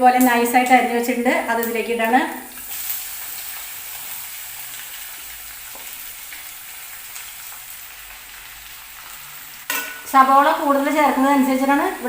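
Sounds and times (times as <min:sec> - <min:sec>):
onions sizzling in hot oil: 0:00.2 - 0:12.0.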